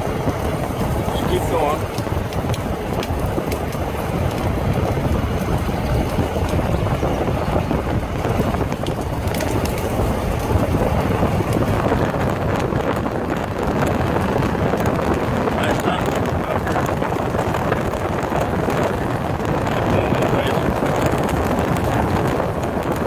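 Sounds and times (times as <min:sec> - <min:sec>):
loud wind buffeting microphone: 0:00.0 - 0:23.0.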